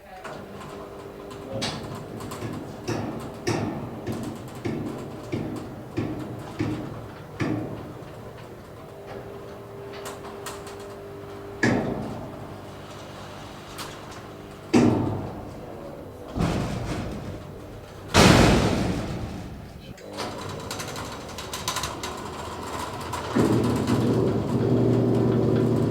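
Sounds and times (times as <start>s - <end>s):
garage door clunks: 0.0s - 25.9s
garage door motor hum: 0.0s - 25.9s.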